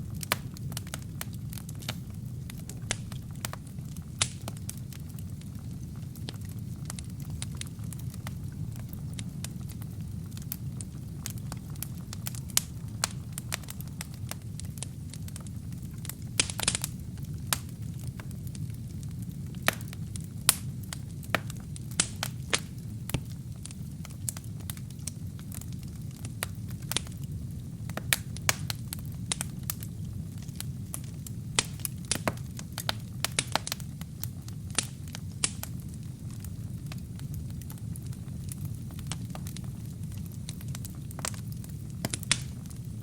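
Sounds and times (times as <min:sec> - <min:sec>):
burning wood crackling and popping: 0:00.0 - 0:43.0
fire flames rumbling: 0:00.0 - 0:43.0.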